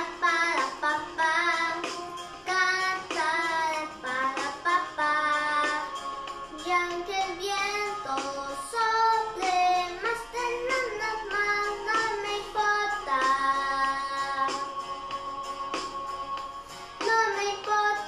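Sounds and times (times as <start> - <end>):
girl singing: 0.0 - 18.0.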